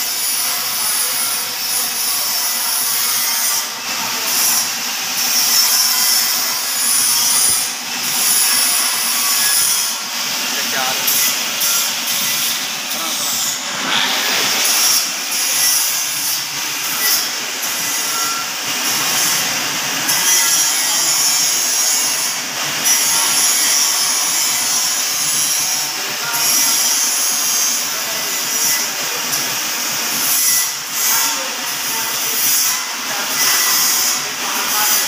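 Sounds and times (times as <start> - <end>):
metal lathe running: 0.0 - 35.0.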